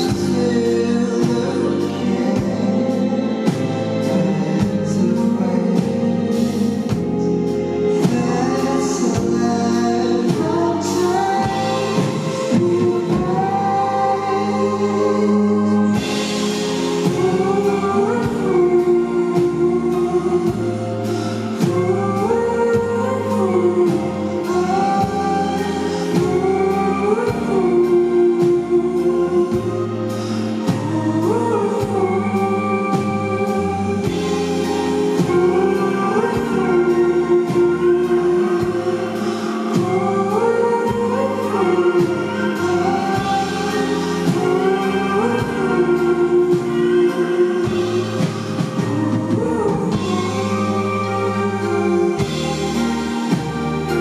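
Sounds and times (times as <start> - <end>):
live band playing: 0.0 - 54.0
low bass notes: 0.0 - 54.0
person singing: 0.0 - 54.0.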